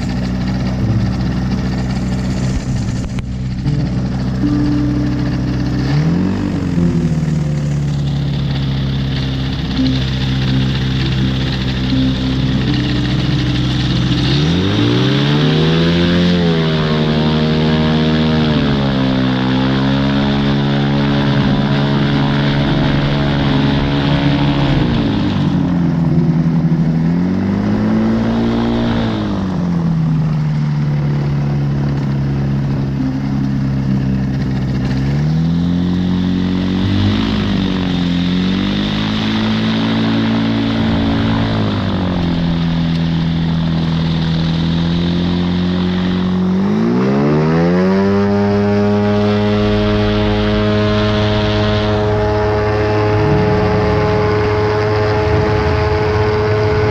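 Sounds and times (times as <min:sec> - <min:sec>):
light aircraft propeller engine: 0:00.0 - 0:56.9.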